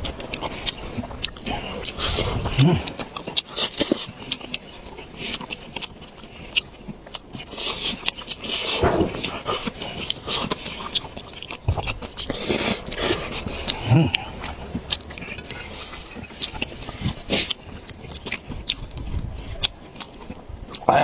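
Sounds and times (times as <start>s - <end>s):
wet mouth clicks and smacks: 0.0s - 20.9s
person biting and chewing food: 0.0s - 21.0s.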